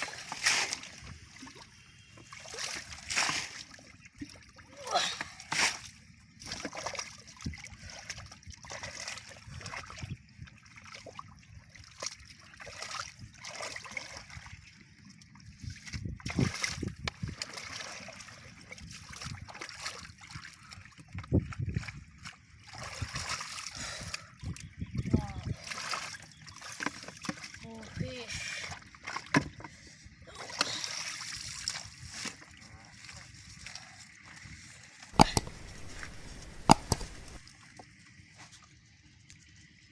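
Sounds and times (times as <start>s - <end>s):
muddy water splashing: 0.0s - 37.6s.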